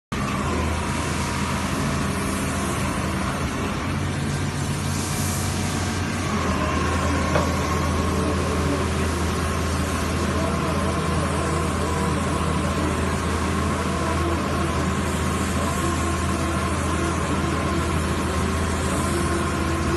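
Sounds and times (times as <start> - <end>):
diesel engine running under load: 0.1 - 19.9
hydraulic drill whine: 0.2 - 19.9.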